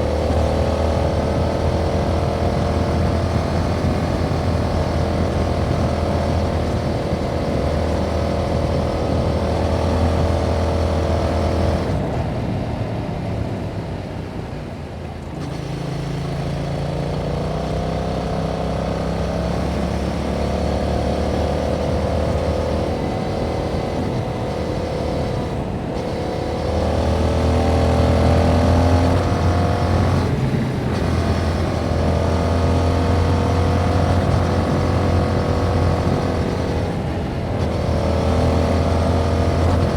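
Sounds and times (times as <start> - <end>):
motorcycle engine running under load: 0.0 - 39.9.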